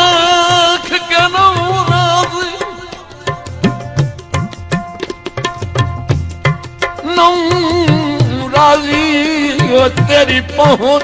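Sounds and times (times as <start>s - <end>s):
tabla drumming: 0.0s - 11.0s.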